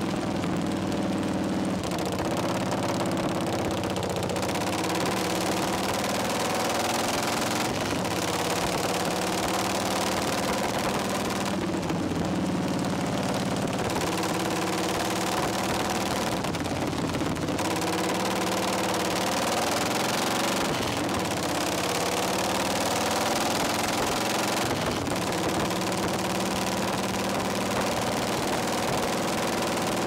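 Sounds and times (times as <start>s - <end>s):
motorcycle engine running hard: 0.0s - 30.0s.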